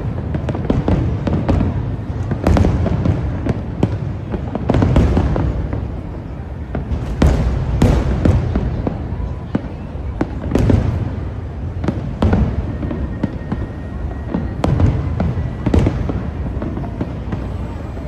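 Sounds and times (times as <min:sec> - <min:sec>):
fireworks bangs and crackles: 0:00.0 - 0:18.0
fireworks rumble: 0:00.0 - 0:18.0.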